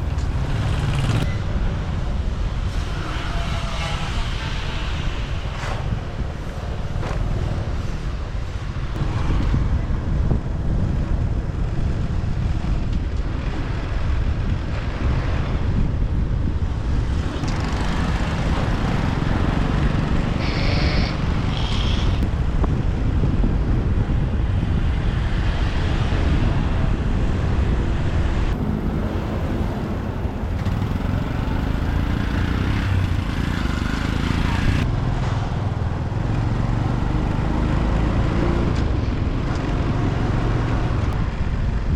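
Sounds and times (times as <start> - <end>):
motorbike engine and road noise: 0.0 - 41.9
wind buffeting microphone: 0.0 - 41.9.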